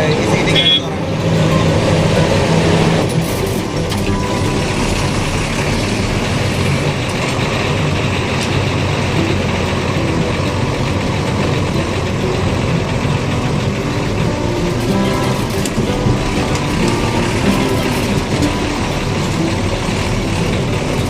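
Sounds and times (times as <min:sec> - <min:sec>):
lorry diesel engine rumble: 0:00.0 - 0:21.0
road noise: 0:00.0 - 0:21.0.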